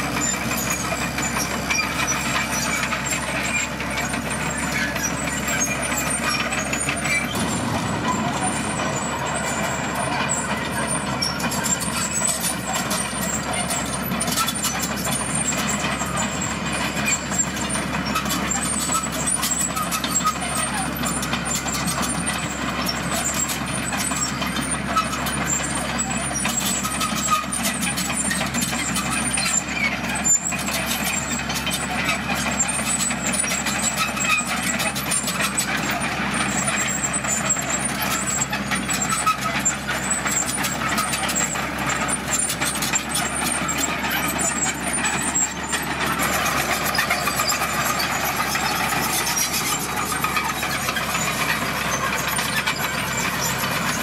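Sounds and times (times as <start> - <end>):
diesel engine noise: 0.0 - 54.0
steel tracks clattering: 0.0 - 54.0.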